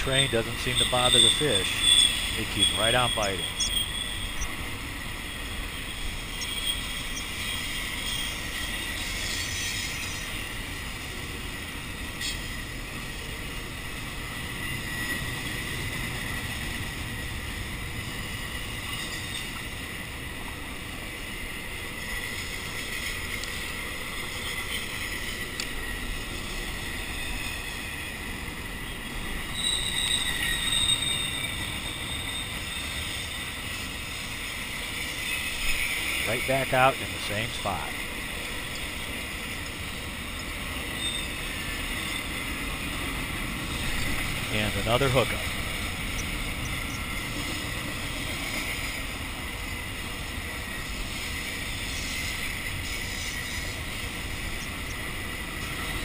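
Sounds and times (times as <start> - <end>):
high wheel squeal: 0.0 - 20.5, 21.1 - 56.0
train wheels rolling on rails: 0.0 - 56.0.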